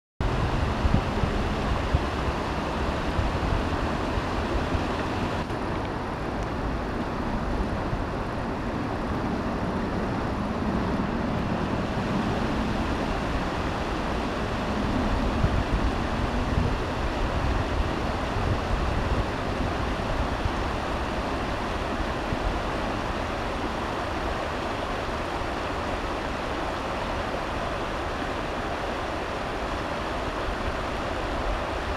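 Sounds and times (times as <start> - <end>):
river rushing over stones: 0.2 - 31.9
wind rumbling on microphone: 0.2 - 31.9.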